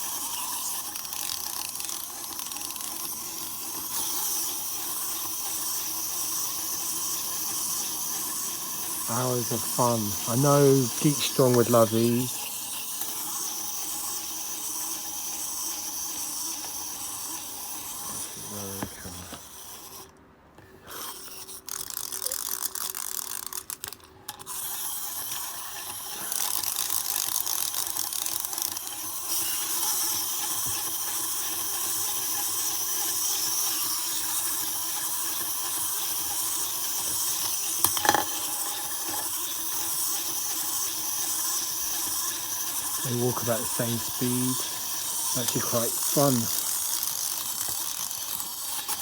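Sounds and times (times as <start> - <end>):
wind-up toys whirring and clicking: 0.0 - 49.0.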